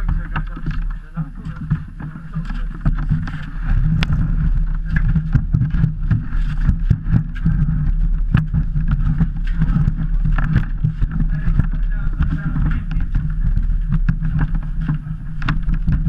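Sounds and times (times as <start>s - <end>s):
sled knocking and rattling: 0.0s - 16.0s
sled runners rumbling on ice: 0.0s - 16.0s.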